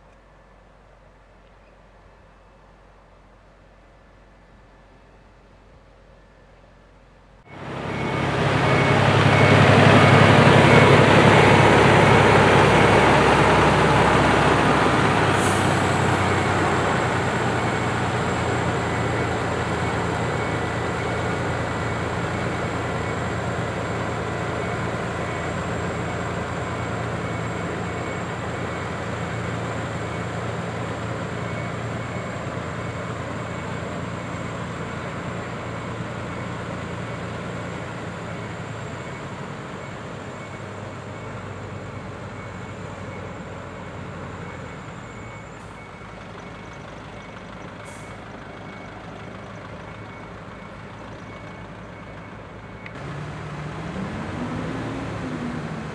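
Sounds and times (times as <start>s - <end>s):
diesel truck engine running: 7.5s - 55.9s.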